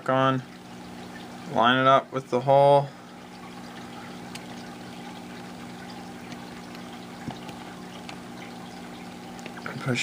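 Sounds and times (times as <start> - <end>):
background hum with hiss: 0.0 - 10.0.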